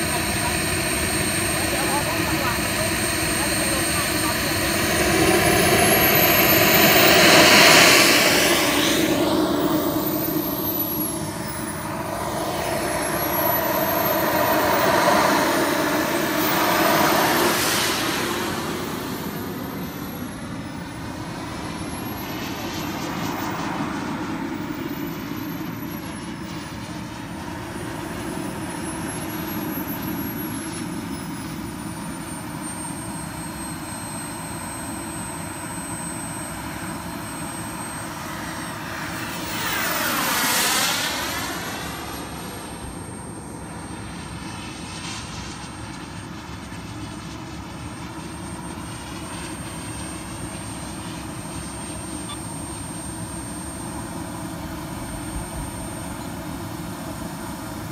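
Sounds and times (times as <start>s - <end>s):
model jet turbine whine: 0.0s - 57.9s.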